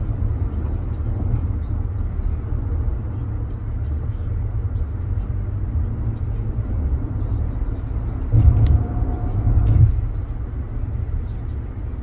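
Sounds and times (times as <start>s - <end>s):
car cabin road noise rumble: 0.0s - 12.0s.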